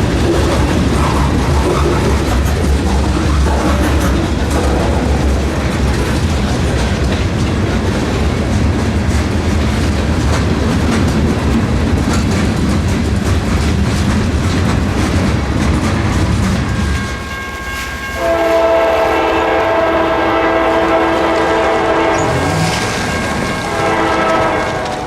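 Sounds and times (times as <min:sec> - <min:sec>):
wheels clicking over rail joints: 0:00.0 - 0:18.2, 0:20.6 - 0:25.0
freight train rumbling: 0:00.0 - 0:25.0.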